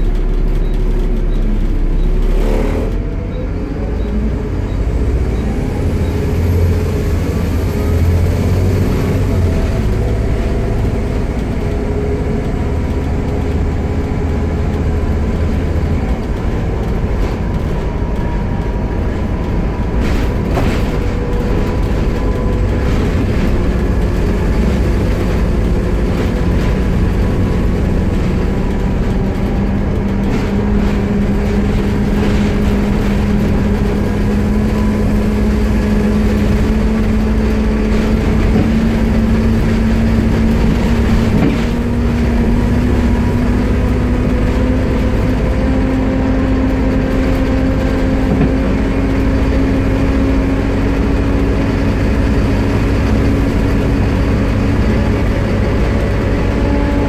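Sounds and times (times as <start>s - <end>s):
bus engine and road noise: 0.0s - 57.0s.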